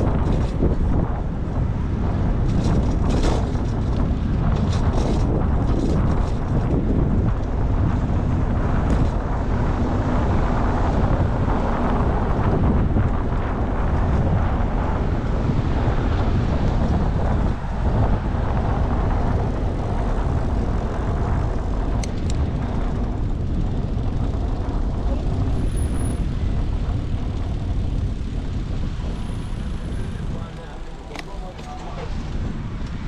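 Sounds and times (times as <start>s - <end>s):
car traffic: 0.0s - 33.0s
wind buffeting microphone: 0.0s - 33.0s.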